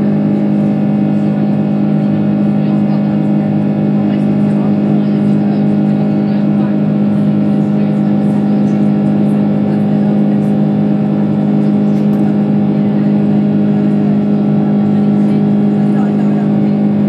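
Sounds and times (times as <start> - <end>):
aircraft engines droning: 0.0 - 17.0
constant low hum: 0.0 - 17.0.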